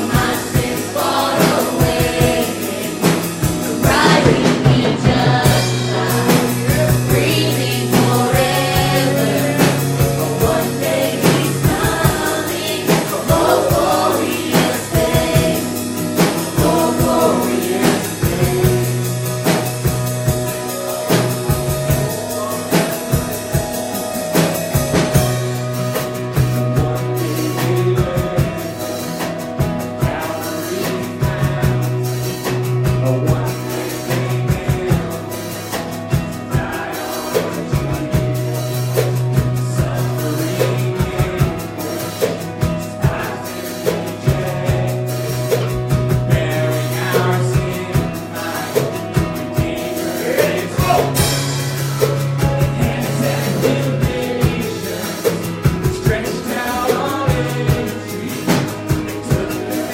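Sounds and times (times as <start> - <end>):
person singing: 0.0 - 19.9, 26.8 - 59.9
drum kit beat: 0.0 - 59.9
worship band playing: 0.0 - 59.9.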